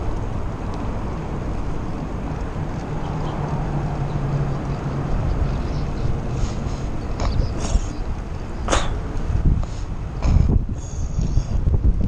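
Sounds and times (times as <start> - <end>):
bike tyres rolling on pavement: 0.0 - 12.0
wind on microphone: 1.8 - 12.0.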